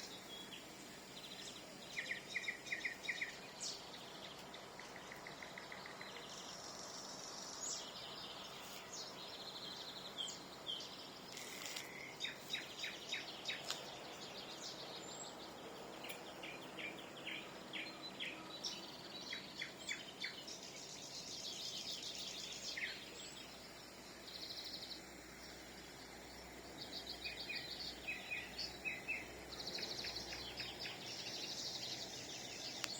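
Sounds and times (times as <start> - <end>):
nightingales singing: 0.0 - 32.9.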